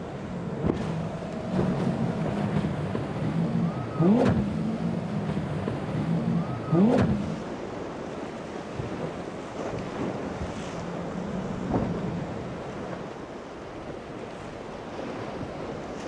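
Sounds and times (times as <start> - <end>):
outboard engines running at speed: 0.0 - 16.0.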